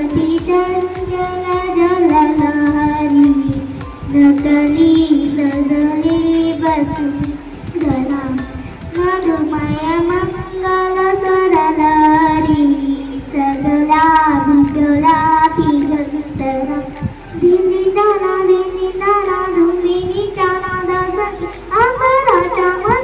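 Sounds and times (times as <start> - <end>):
girl singing into a microphone: 0.0 - 23.0.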